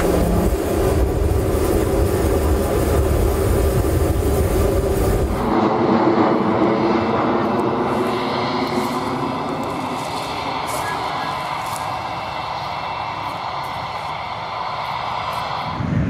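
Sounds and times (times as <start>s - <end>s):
jet engines rumbling: 0.0s - 16.0s
thin jet engine noise: 0.0s - 16.0s.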